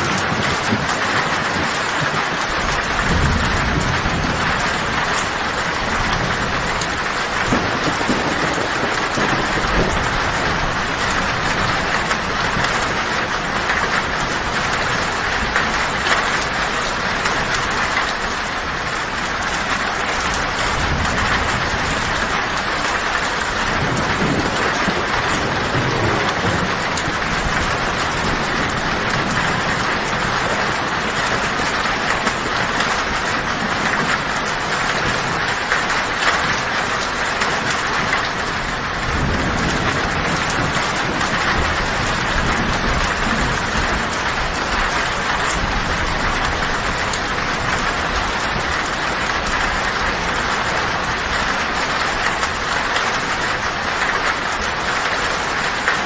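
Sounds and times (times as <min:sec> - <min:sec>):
low rumble of thunder: 0:00.0 - 0:55.8
heavy rain on a tin roof: 0:00.0 - 0:56.0.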